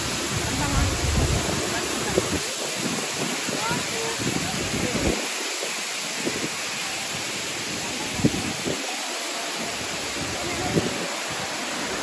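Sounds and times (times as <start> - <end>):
wind rumble on microphone: 0.0 - 8.9, 9.7 - 12.0
waterfall rushing: 0.0 - 12.0.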